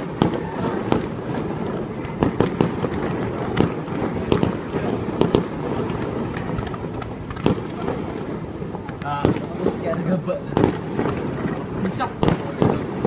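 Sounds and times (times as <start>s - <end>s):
distant explosions rumbling: 0.0s - 13.0s
fireworks bangs: 0.0s - 13.0s.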